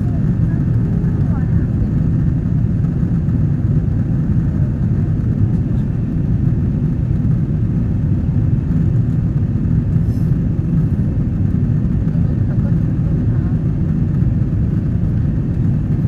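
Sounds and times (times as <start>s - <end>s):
jet cabin engine rumble: 0.0s - 16.0s.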